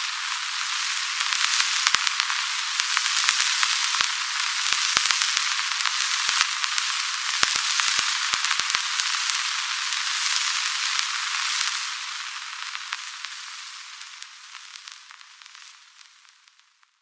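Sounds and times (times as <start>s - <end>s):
crackles and pops: 0.0s - 17.0s
film hiss: 0.0s - 17.0s.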